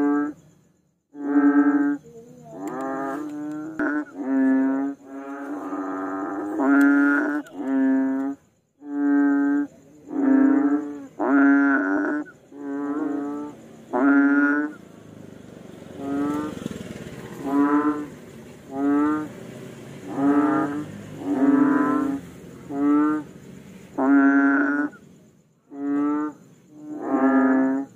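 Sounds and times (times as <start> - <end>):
frog calling: 0.0 - 27.9.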